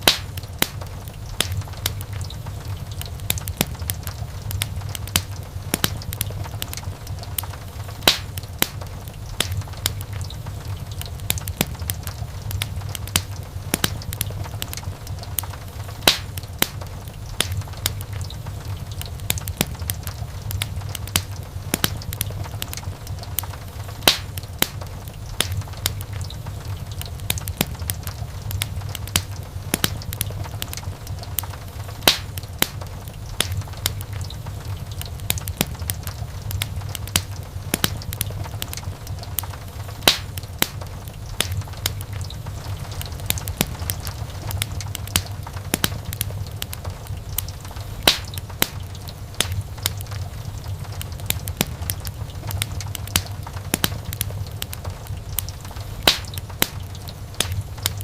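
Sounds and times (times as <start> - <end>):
burning logs snapping and popping: 0.0 - 58.0
wood fire crackling: 0.0 - 58.0.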